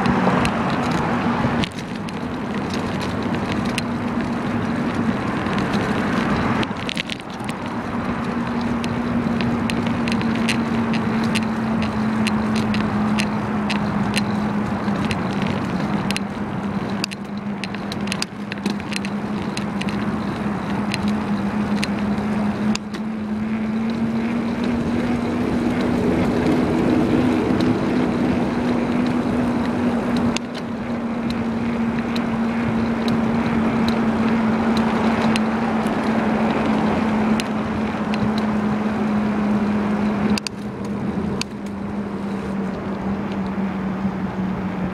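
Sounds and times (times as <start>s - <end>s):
small clicks and rattles: 0.0s - 43.7s
wind and road noise: 0.0s - 44.9s.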